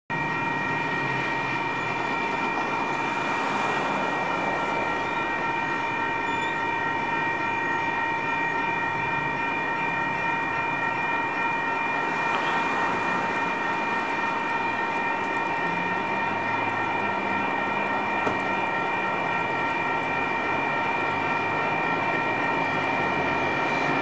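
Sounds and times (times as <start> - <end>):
high ringing tones: 0.1 - 24.0.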